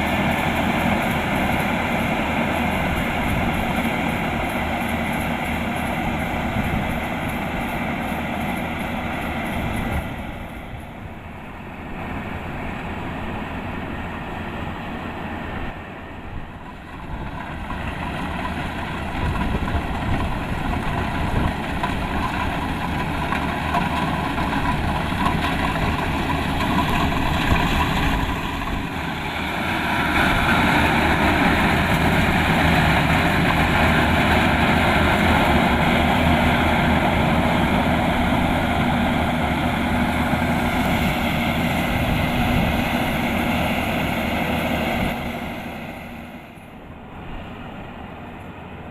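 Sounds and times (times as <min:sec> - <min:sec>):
combine harvester diesel engine: 0:00.0 - 0:48.9.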